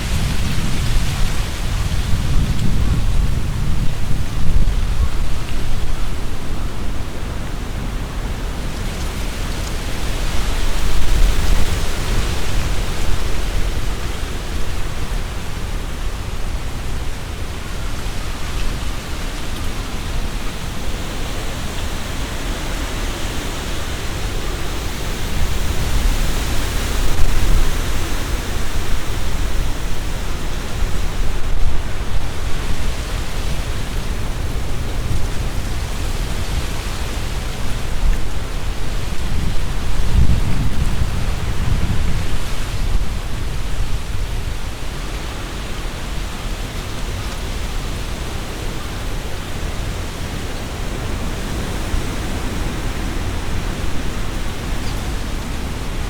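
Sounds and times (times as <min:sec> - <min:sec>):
wind rumble on microphone: 0:00.0 - 0:56.0
wind rushing through tree leaves: 0:00.0 - 0:56.0.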